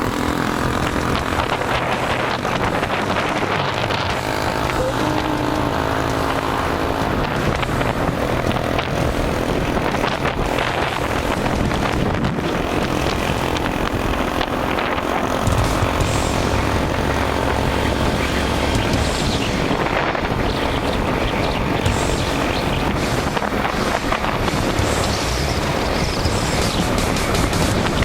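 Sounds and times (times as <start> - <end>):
motorcycle engine running: 0.0 - 28.0
wind rush: 0.0 - 28.0.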